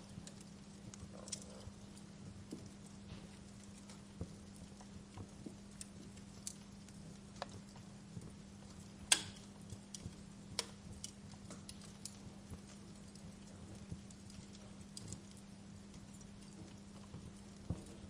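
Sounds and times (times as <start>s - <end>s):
low steady hum: 0.0s - 18.0s
wood fire crackling: 0.0s - 18.0s.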